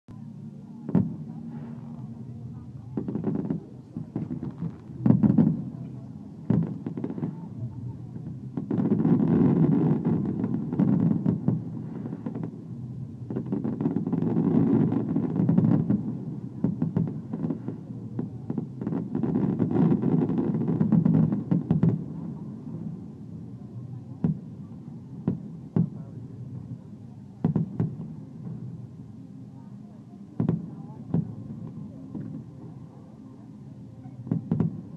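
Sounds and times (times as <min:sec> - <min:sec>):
fireworks exploding: 0:00.9 - 0:02.1, 0:02.8 - 0:23.1, 0:24.1 - 0:26.6, 0:27.4 - 0:28.8, 0:30.4 - 0:32.7, 0:34.2 - 0:34.9.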